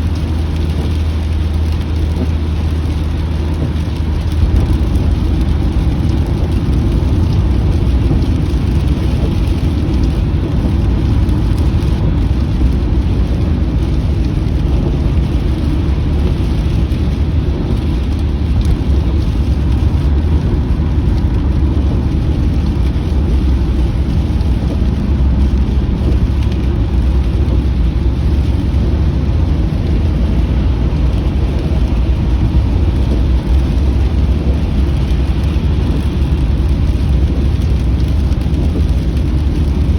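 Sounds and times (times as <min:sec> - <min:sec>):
car driving rumble: 0:00.0 - 0:39.9
rain on car: 0:00.0 - 0:39.9.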